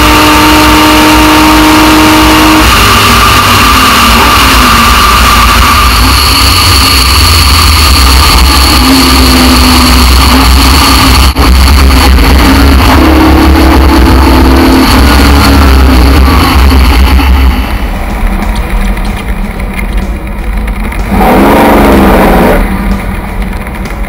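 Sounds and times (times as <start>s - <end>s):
racing car engine running: 0.0s - 24.0s.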